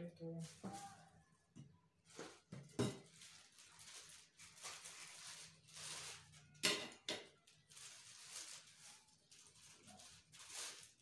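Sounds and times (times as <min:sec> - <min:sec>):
plastic packaging crinkling: 0:00.4 - 0:01.2, 0:02.1 - 0:06.6, 0:07.2 - 0:11.0.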